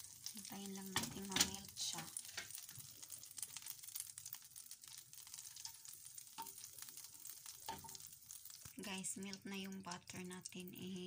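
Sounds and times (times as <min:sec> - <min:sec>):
butter sizzling in a frying pan: 0:00.0 - 0:11.0.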